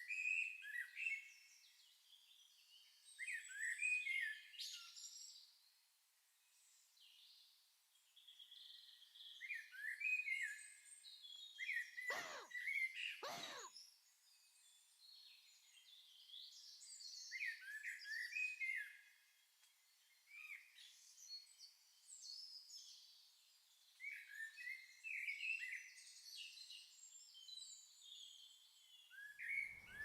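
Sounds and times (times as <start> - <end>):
small songbirds chirping faintly: 0.0 - 30.0.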